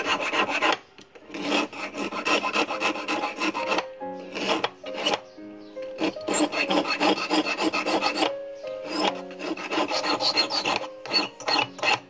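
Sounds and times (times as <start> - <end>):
file rasping on metal hook: 0.0 - 5.2, 5.9 - 12.0
soft background music: 0.0 - 12.0.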